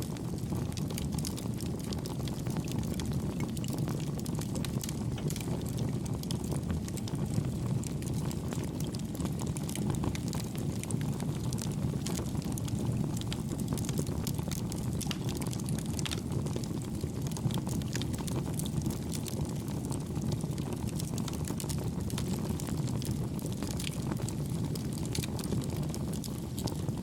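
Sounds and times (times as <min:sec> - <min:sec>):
campfire flames rumbling: 0:00.0 - 0:27.0
fire crackles and pops: 0:00.0 - 0:27.0.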